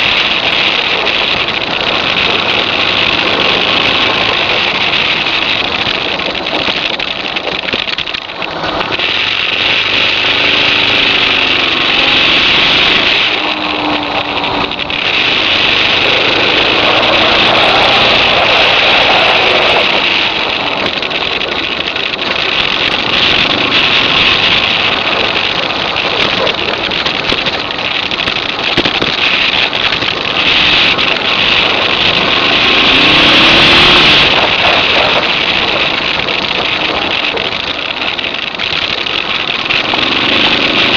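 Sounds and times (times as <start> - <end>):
gravel road noise: 0.0 - 40.9
motorcycle engine revving: 0.0 - 40.9.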